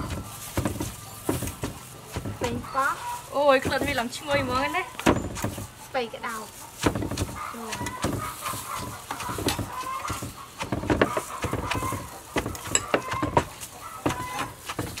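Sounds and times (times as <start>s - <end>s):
wooden pestle pounding in mortar: 0.0s - 5.8s, 6.7s - 15.0s.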